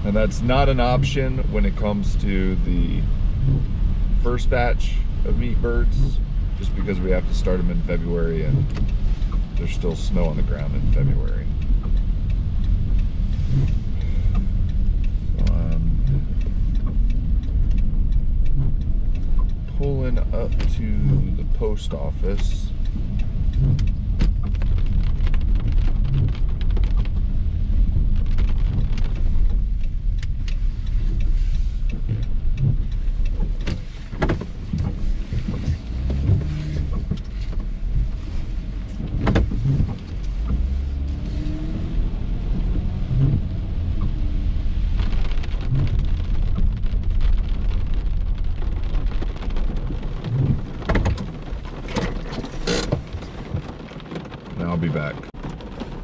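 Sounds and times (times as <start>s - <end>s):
car engine and road rumble: 0.0s - 56.0s
rain hitting windshield and roof: 0.0s - 56.0s.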